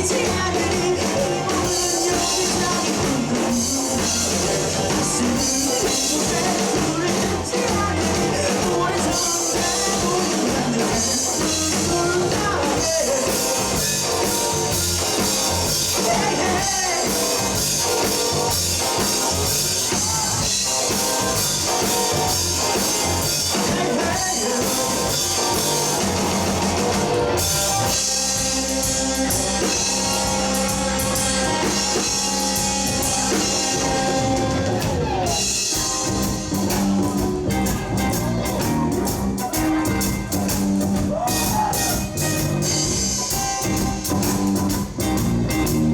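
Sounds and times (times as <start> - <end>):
bass guitar: 0.0 - 45.9
drum kit with heavy cymbals: 0.0 - 45.9
electric guitars: 0.0 - 45.9.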